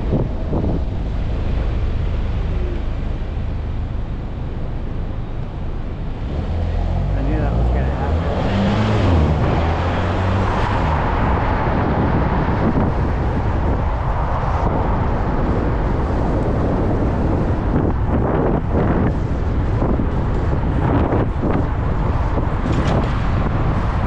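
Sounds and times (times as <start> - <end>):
traffic: 0.0 - 24.0
vehicle engine hum: 0.0 - 24.0
wind buffeting microphone: 0.0 - 24.0.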